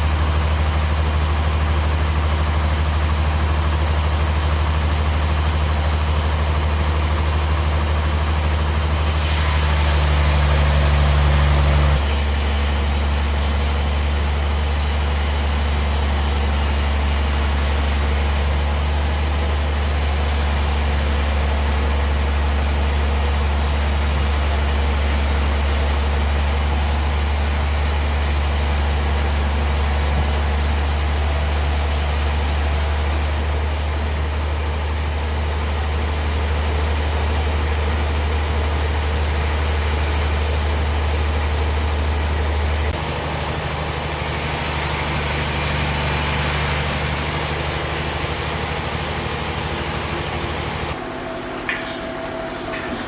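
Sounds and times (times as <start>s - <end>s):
sawmill motor hum: 0.0s - 53.0s.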